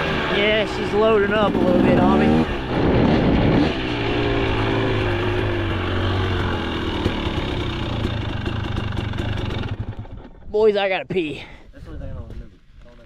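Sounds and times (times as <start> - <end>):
two-stroke engine at low revs: 0.0 - 10.5.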